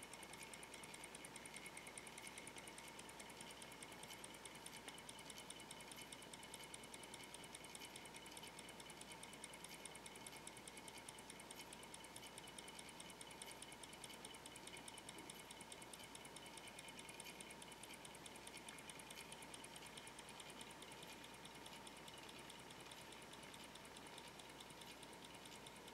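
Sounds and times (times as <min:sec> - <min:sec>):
model steam engine ticking: 0:00.0 - 0:25.9.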